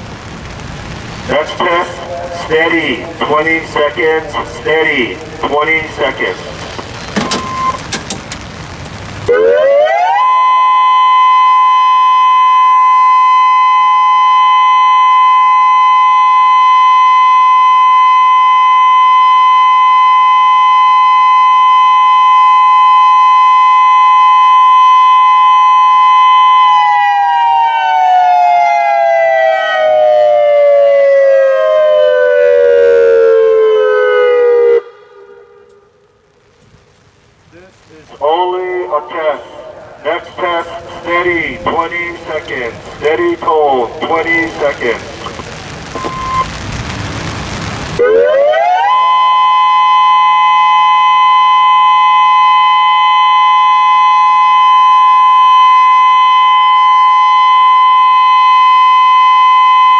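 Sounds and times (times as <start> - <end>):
outdoor warning siren: 0.0 - 36.6, 38.2 - 59.9.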